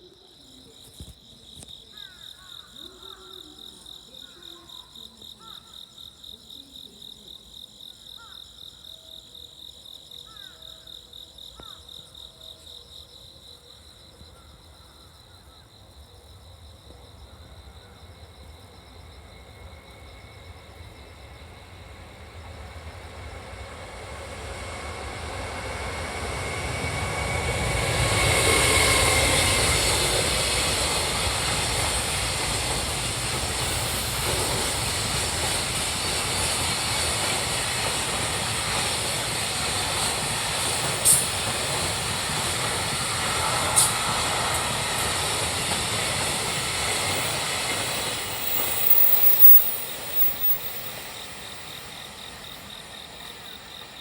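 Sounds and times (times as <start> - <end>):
freight train passing: 8.0 - 54.0.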